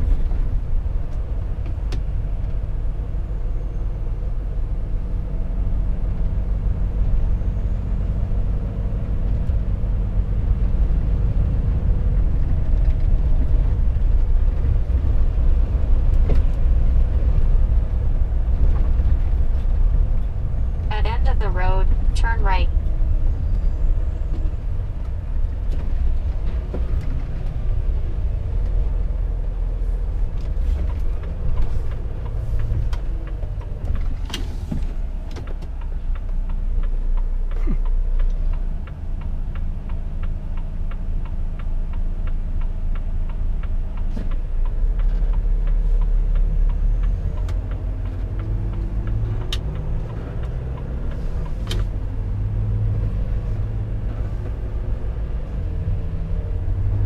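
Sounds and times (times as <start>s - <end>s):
road noise: 0.0s - 57.0s
truck diesel engine rumbling: 0.0s - 57.0s.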